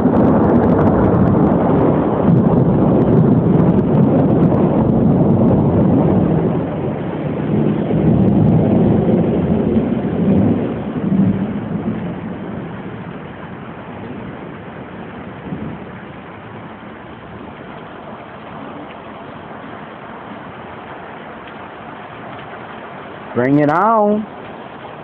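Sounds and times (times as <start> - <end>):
rain: 0.0 - 25.0
thunder rumbling: 0.0 - 25.0.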